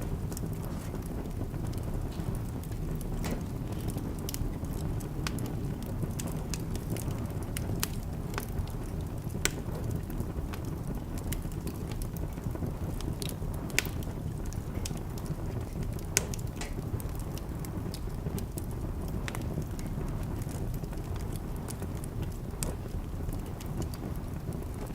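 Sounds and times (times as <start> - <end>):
fire burning low rush: 0.0 - 24.9
fire crackling and popping: 0.0 - 24.9.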